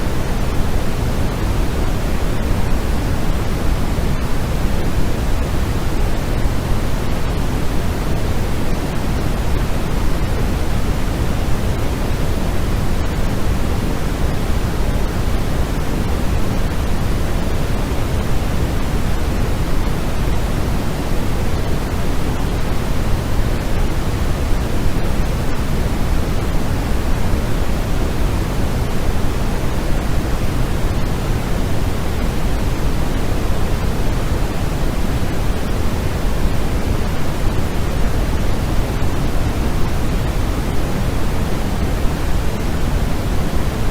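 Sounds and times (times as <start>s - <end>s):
steady noise rush: 0.0s - 43.9s.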